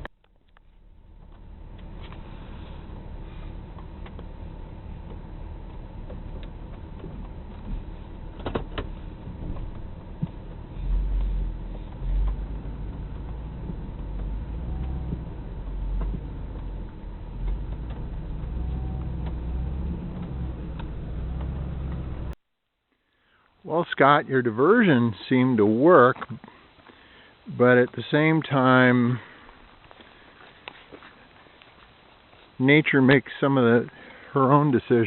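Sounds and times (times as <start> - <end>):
vehicle engine humming: 0.0 - 22.5, 23.1 - 35.0.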